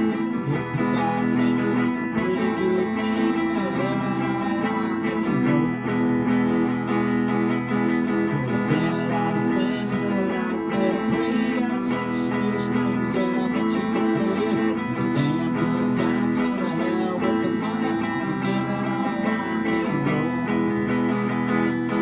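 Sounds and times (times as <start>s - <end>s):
guitar-led band music: 0.0s - 22.0s.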